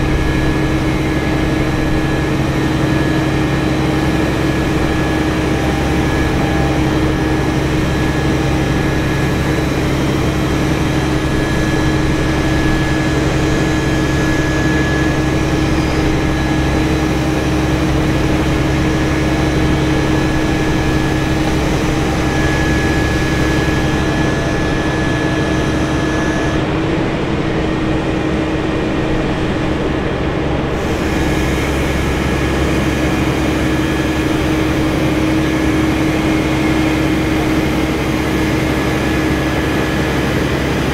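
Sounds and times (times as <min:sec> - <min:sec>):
heavy engine droning: 0:00.0 - 0:40.9.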